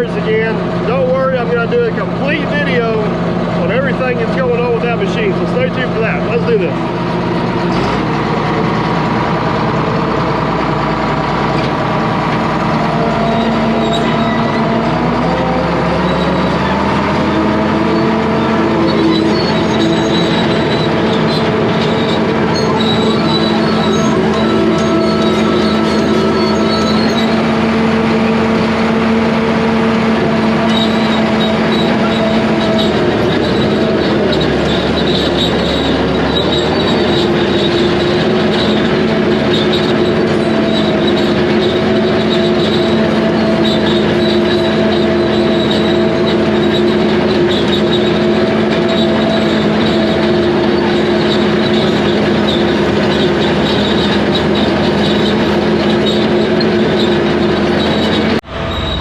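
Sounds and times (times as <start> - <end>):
diesel engine under load: 0.0 - 59.0
steel tracks squealing: 0.0 - 59.0.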